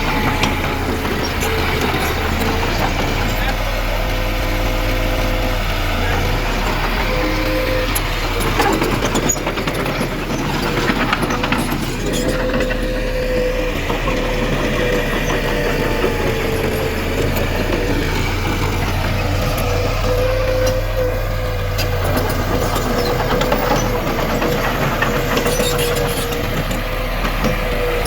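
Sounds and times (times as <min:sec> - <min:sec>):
heavy diesel machinery whine: 0:00.0 - 0:28.0.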